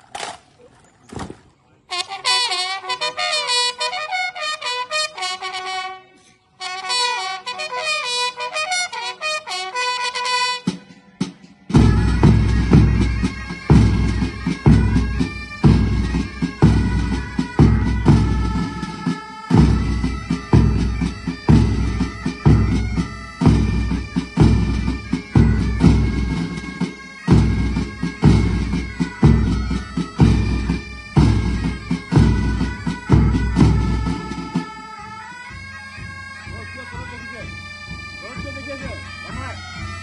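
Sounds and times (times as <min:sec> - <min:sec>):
bagpipes playing melody: 0:01.9 - 0:40.0.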